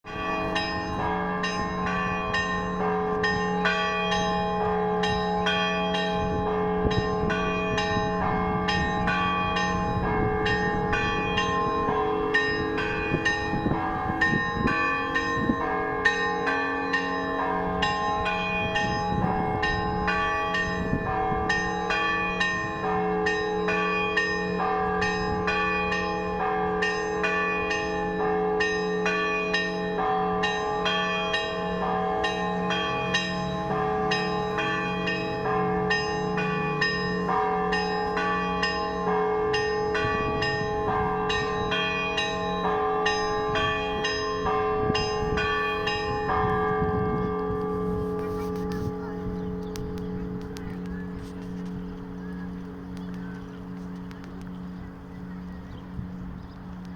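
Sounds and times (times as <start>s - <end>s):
low bells ringing hum: 0.0s - 56.9s.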